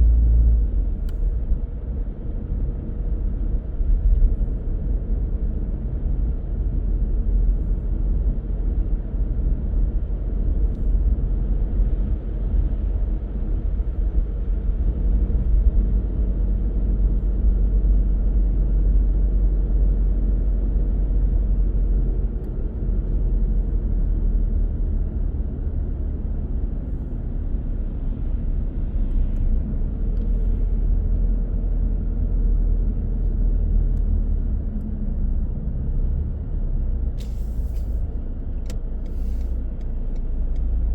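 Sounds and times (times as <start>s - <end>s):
car engine rumble: 0.0s - 40.9s
tyre road noise: 0.0s - 40.9s.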